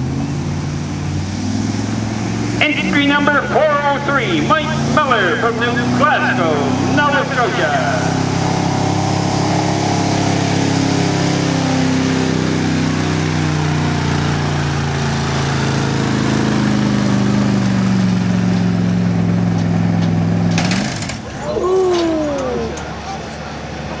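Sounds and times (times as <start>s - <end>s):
truck engine straining: 0.0s - 24.0s.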